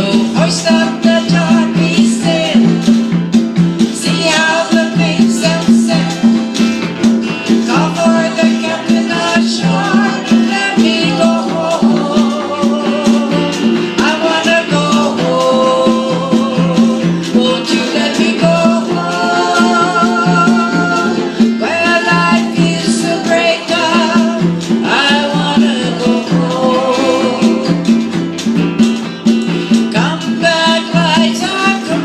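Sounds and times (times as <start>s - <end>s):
bass line: 0.0s - 32.0s
congas: 0.0s - 32.0s
small band playing island-style tune: 0.0s - 32.0s.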